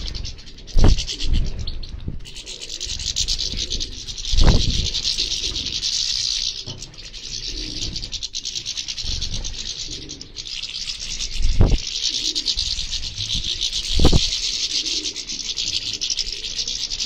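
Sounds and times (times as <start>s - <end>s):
birds twittering: 0.0s - 17.0s.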